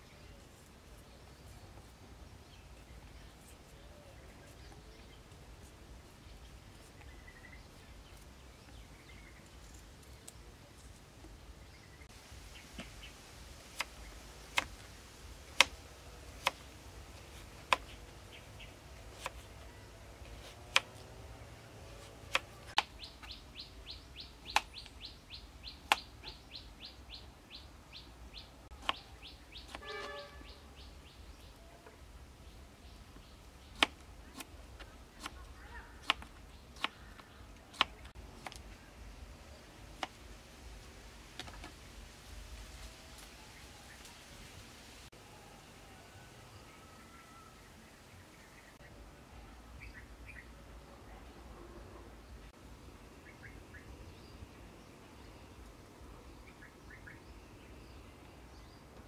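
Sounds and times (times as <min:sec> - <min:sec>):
bird chirping: 0:00.0 - 0:13.2, 0:16.4 - 0:40.2, 0:45.3 - 0:59.0.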